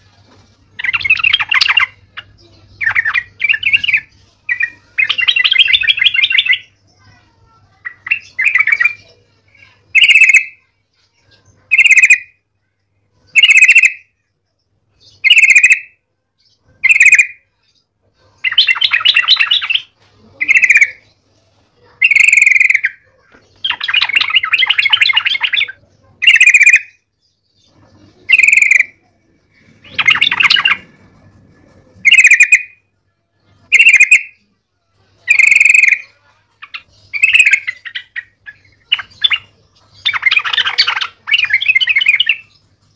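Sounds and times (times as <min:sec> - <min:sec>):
bulbul singing: 0:00.0 - 0:42.9
rapid bird chattering: 0:00.8 - 0:12.4, 0:13.3 - 0:14.2, 0:15.0 - 0:16.0, 0:16.7 - 0:17.6, 0:18.2 - 0:21.2, 0:21.8 - 0:32.9, 0:33.6 - 0:34.5, 0:35.2 - 0:42.7.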